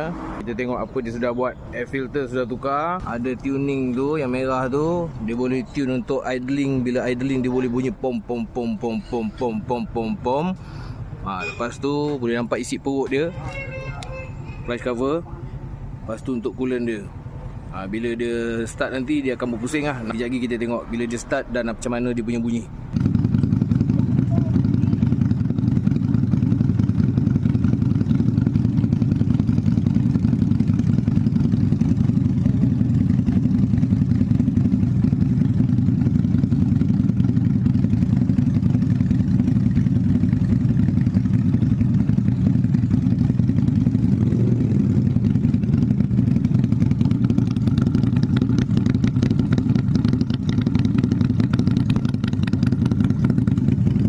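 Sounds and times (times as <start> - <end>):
motorcycle engine idling: 2.4 - 54.0.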